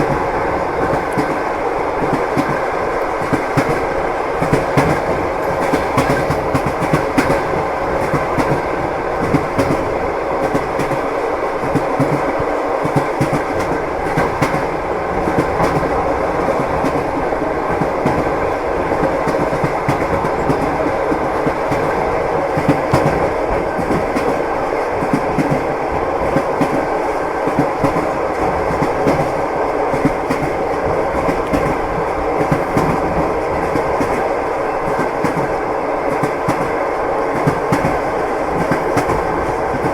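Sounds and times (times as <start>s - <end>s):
train running rumble: 0.0s - 39.9s
train wheels clicking over rail joints: 0.0s - 39.9s.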